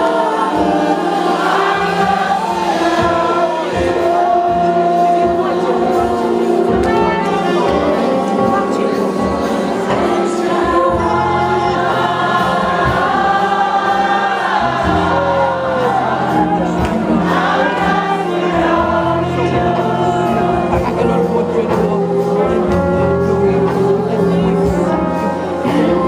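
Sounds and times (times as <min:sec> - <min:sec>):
gospel choir singing: 0:00.0 - 0:26.0
instrumental accompaniment with bass: 0:00.0 - 0:26.0.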